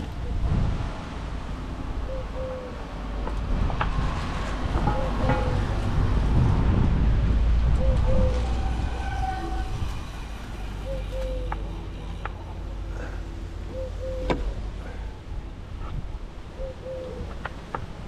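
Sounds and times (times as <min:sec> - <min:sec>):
wind and road noise rumble: 0:00.0 - 0:18.0.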